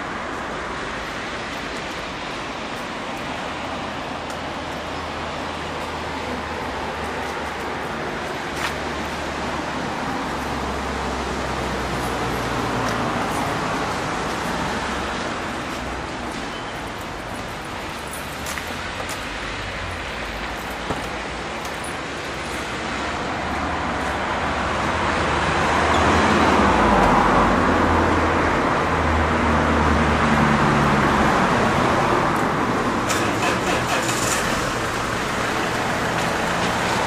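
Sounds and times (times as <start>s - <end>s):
road noise hiss: 0.0s - 37.0s
vehicle engine and tyres passing: 0.0s - 37.0s.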